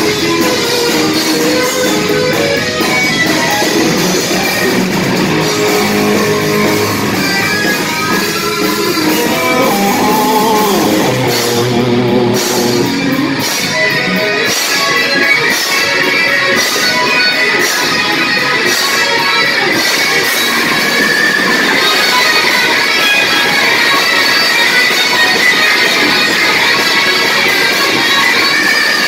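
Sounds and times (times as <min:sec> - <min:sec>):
bent lead guitar notes: 0:00.0 - 0:29.0
drum kit: 0:00.0 - 0:29.0
electric guitars: 0:00.0 - 0:29.0.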